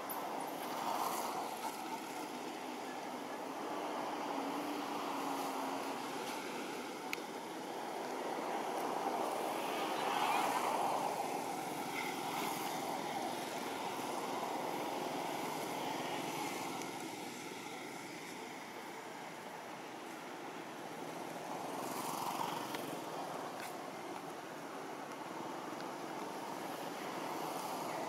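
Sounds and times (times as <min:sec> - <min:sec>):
rushing outdoor background noise: 0:00.0 - 0:28.0.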